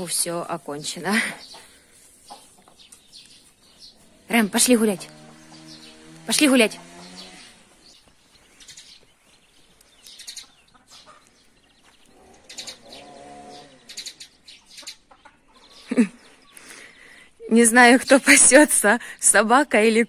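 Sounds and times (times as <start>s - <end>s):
hens clucking: 0.0s - 8.8s, 9.7s - 17.1s.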